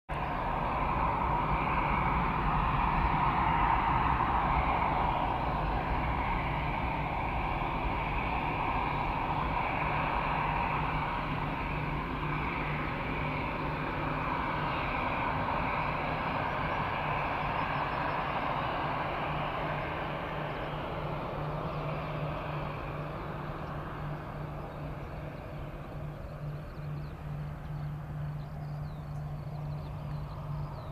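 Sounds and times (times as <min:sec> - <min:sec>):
jet engines idling: 0:00.1 - 0:30.9.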